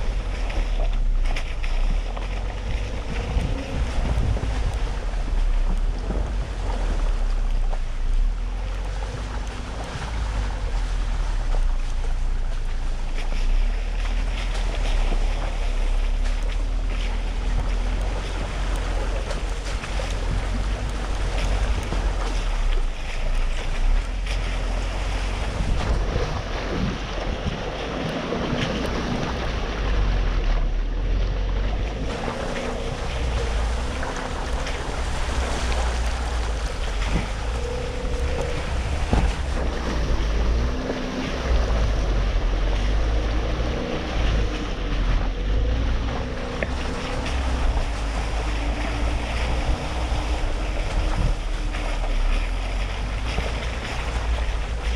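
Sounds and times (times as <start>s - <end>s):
low engine drone: 0.0s - 54.9s
wind noise on microphone: 0.0s - 54.9s.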